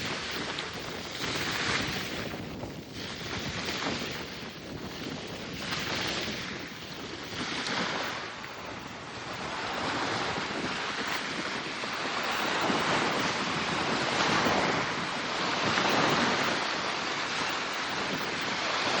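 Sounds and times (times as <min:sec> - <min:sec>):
small waves washing ashore: 0:00.0 - 0:19.0
wind on microphone: 0:00.0 - 0:19.0.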